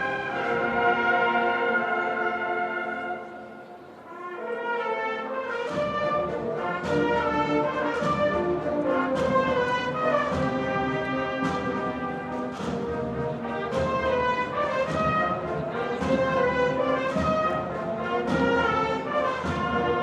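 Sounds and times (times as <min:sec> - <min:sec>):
cornet and drum band march: 0:00.0 - 0:03.4, 0:04.1 - 0:20.0.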